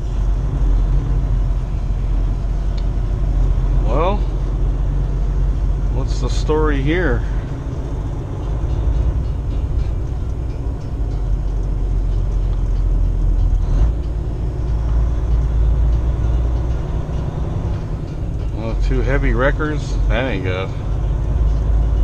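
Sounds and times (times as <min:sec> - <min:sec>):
diesel truck engine rumble: 0:00.0 - 0:22.0
road noise: 0:00.0 - 0:22.0.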